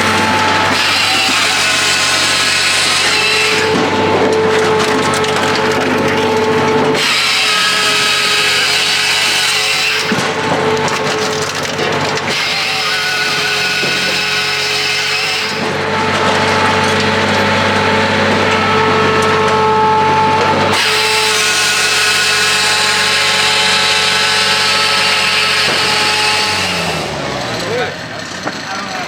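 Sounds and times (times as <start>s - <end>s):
power saw cutting wood: 0.0s - 29.0s.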